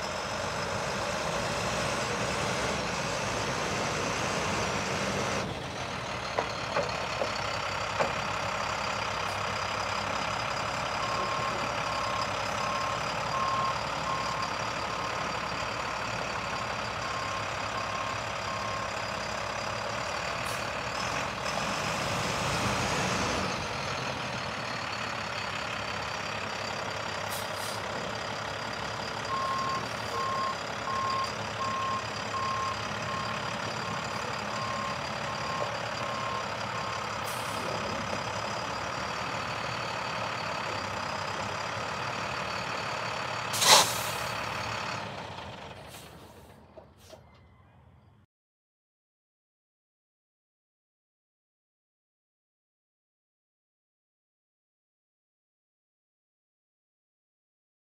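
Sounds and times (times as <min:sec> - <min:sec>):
diesel truck engine running: 0:00.0 - 0:47.2.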